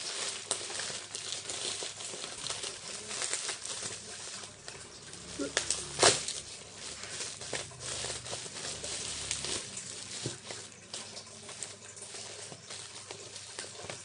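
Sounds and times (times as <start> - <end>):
packaging rustling and crinkling: 0.0 - 14.0
small clicks and crackles: 0.0 - 14.0.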